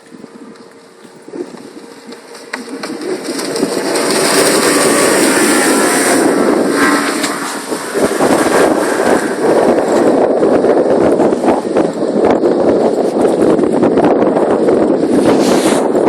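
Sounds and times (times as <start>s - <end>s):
boat motor with rushing water: 0.0s - 16.0s.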